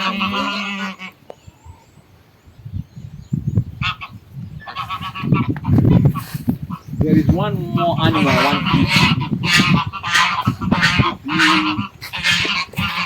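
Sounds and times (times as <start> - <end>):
geese honking: 0.0 - 1.3, 3.8 - 13.0.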